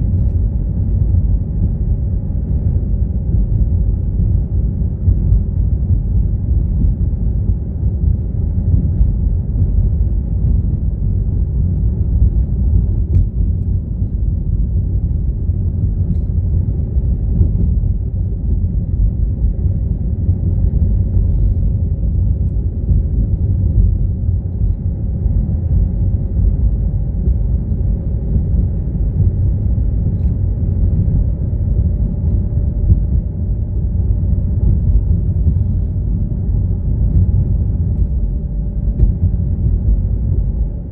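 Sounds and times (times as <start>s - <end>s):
car road and engine rumble: 0.0s - 40.9s
faint steady hum: 0.0s - 40.9s.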